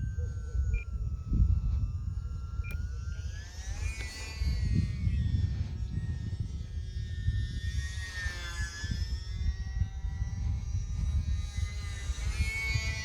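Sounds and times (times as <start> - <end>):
electric motor and propeller whine: 0.0 - 13.0
wind rumble on microphone: 0.0 - 13.0.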